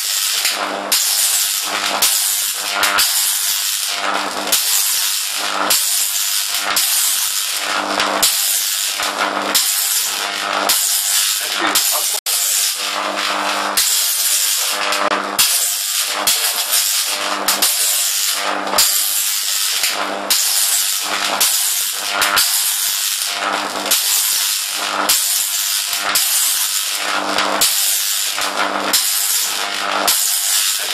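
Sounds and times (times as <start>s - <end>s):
electric arc crackling buzz: 0.0s - 30.9s.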